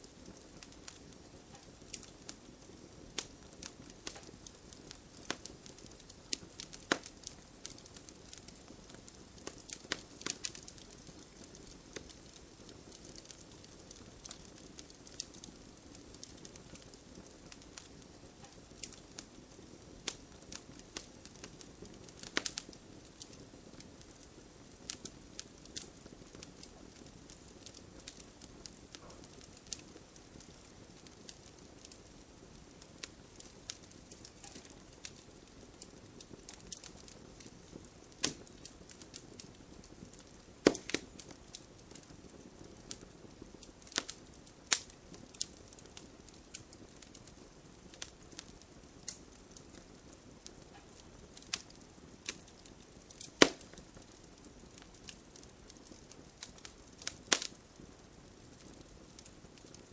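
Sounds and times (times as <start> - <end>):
light rain hiss: 0.0 - 59.9
wood fire crackling: 0.0 - 59.9.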